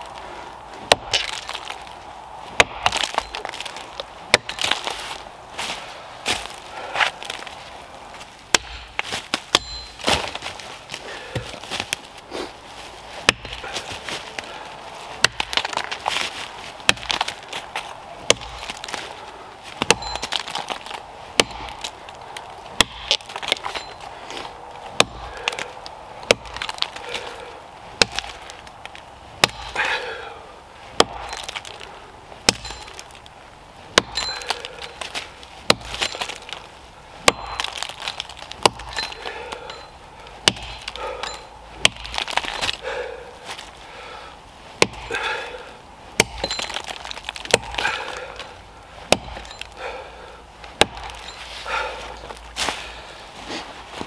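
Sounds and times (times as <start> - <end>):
axe chopping tree trunk: 0.8 - 7.6, 8.5 - 12.2, 13.2 - 33.3, 33.9 - 43.8, 44.8 - 52.8.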